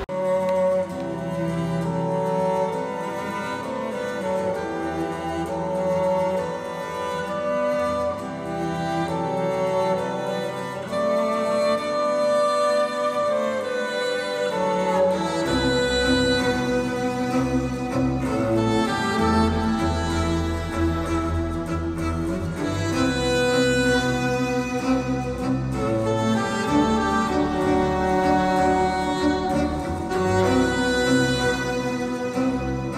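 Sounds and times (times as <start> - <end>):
string ensemble playing slowly: 0.0 - 32.9.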